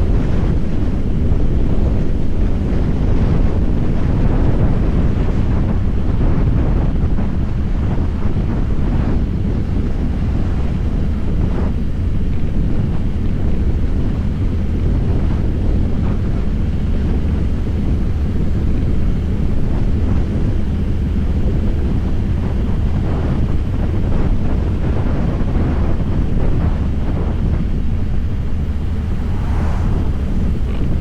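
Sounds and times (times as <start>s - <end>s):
motorcycle engine running: 0.0s - 31.0s
wind buffeting on microphone: 0.0s - 31.0s.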